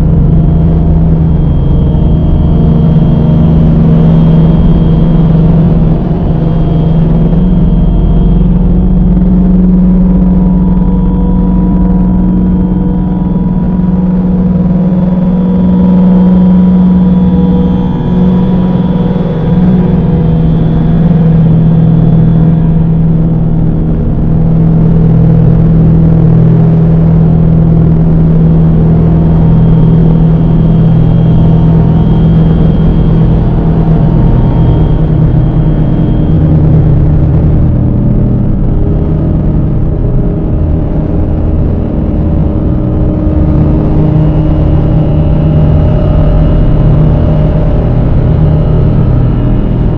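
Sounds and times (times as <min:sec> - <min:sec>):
dark ambient drone music: 0:00.0 - 0:49.9.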